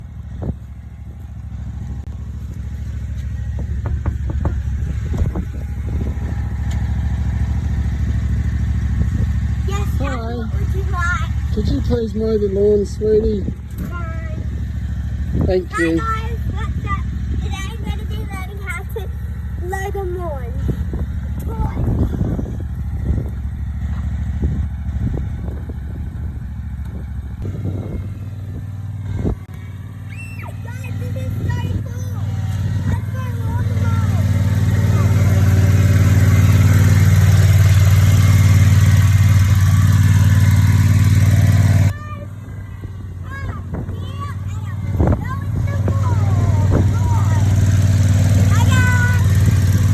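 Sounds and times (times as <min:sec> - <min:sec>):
lawnmower engine running: 0:00.0 - 0:49.9.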